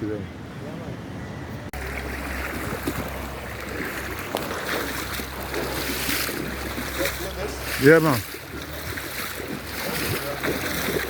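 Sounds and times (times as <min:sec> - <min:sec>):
water moving by shore: 0:00.0 - 0:11.0
wind on microphone: 0:00.0 - 0:11.0
low rumble: 0:01.8 - 0:11.0.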